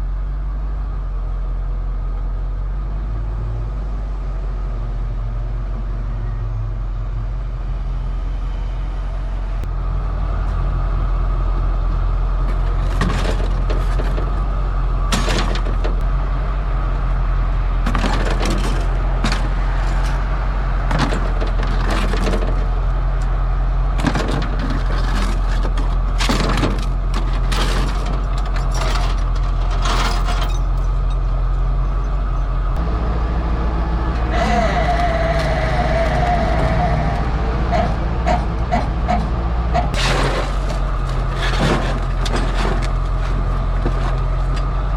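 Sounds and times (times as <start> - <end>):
truck engine running: 0.0 - 44.9.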